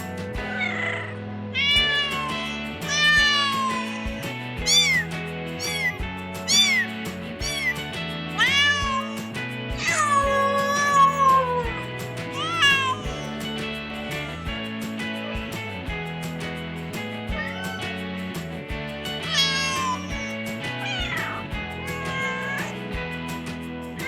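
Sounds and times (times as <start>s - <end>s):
cat meowing: 0.4s - 15.6s, 17.3s - 18.1s, 19.1s - 23.3s
background music with steady beat: 1.6s - 24.0s.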